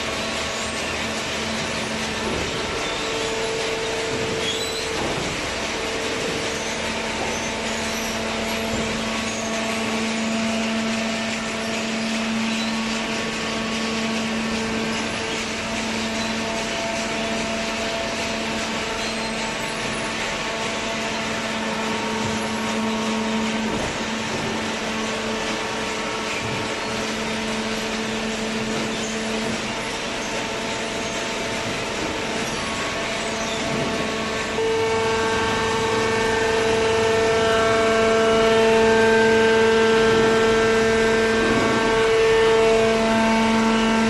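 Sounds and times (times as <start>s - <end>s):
baling machine humming: 0.0s - 44.0s.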